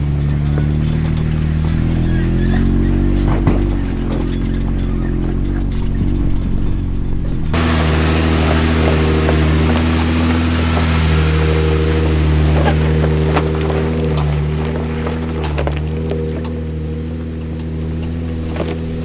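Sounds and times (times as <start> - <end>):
engine running at low speed: 0.0 - 19.0
rock clicking under tyres: 0.0 - 19.0.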